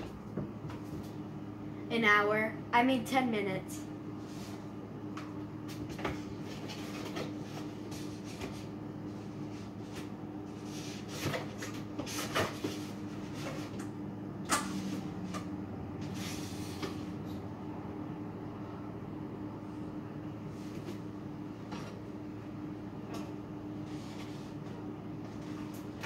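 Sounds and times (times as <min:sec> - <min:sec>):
freezer low hum: 0:00.0 - 0:26.0.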